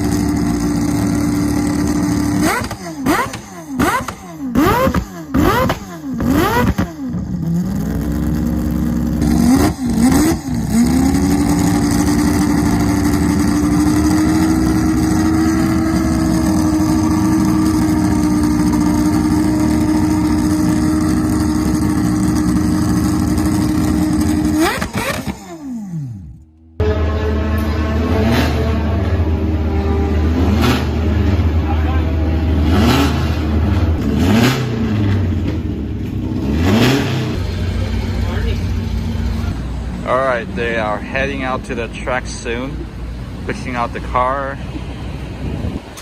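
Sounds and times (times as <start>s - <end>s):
racing engine revving: 0.0s - 42.9s.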